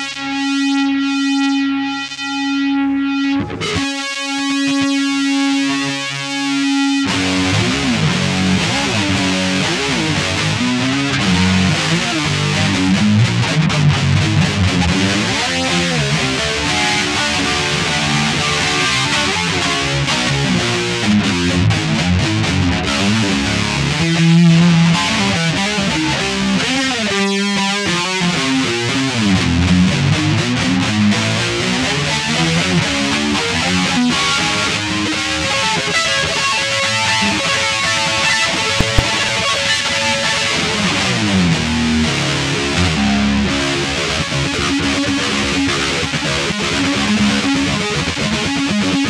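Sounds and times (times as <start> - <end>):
guitar playing: 0.4 - 36.5, 38.2 - 49.0.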